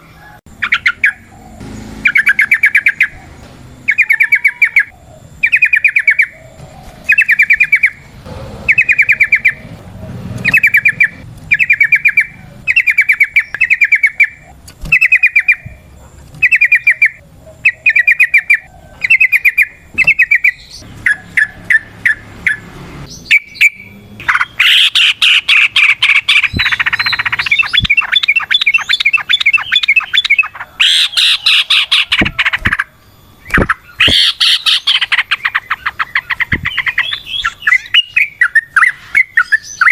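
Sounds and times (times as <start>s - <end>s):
bird chattering song: 0.5s - 39.9s.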